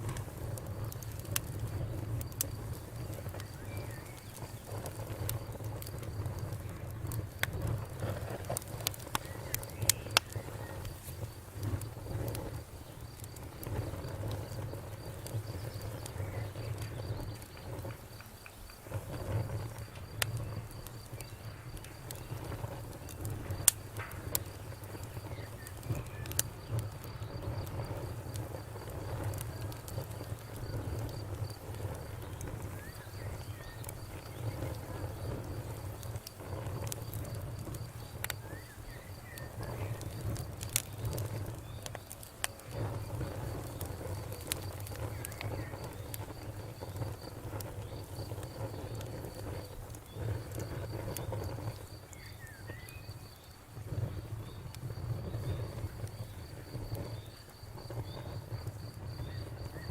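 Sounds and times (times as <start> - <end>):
campfire crackling and popping: 0.0 - 59.9
low rumble of burning wood: 0.0 - 59.9.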